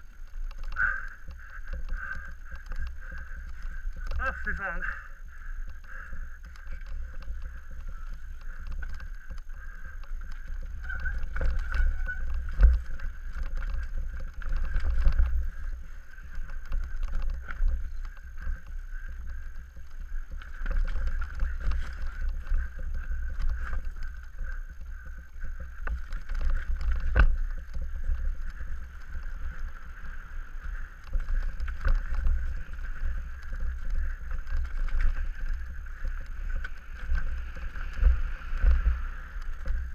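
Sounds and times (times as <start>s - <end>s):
bike knocking and rattling: 0.0s - 39.9s
wind and trail rumble: 0.0s - 39.9s.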